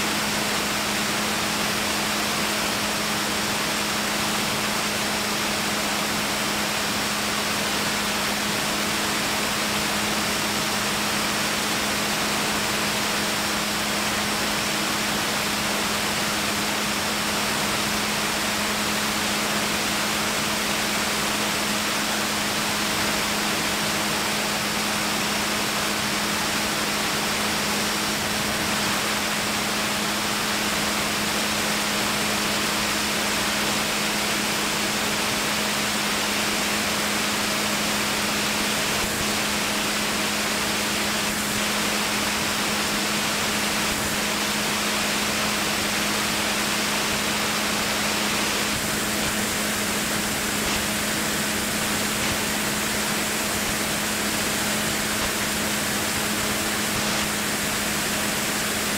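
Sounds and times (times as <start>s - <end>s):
aircraft engine drone: 0.0s - 58.9s.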